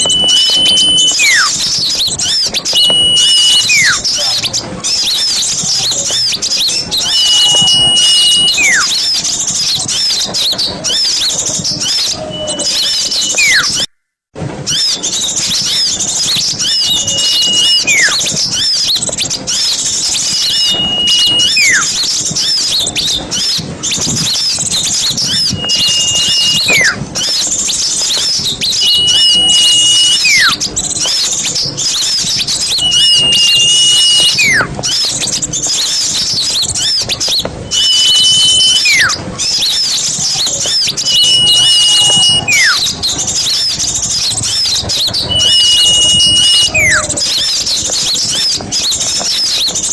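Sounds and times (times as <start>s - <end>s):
bird whistle sliding downward: 0.0s - 13.9s, 14.7s - 49.8s
small birds chirping and twittering: 0.0s - 13.9s, 14.7s - 49.9s.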